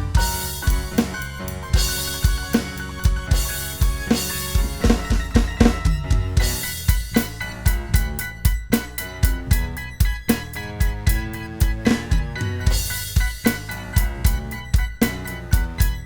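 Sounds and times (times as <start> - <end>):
drum kit beat: 0.0 - 16.0
instrumental backing track: 0.0 - 16.0.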